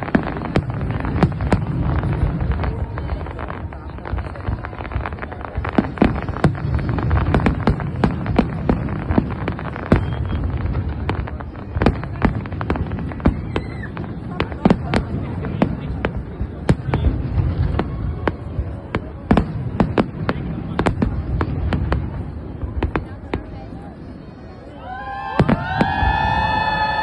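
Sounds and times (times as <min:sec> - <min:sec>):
fireworks bangs and pops: 0:00.0 - 0:27.0.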